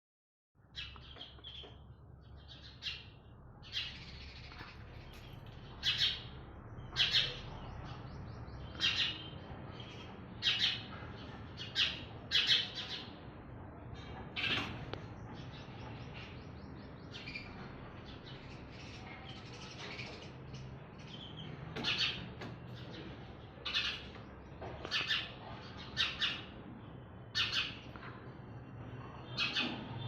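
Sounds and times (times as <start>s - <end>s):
small birds chirping: 0.6s - 30.0s.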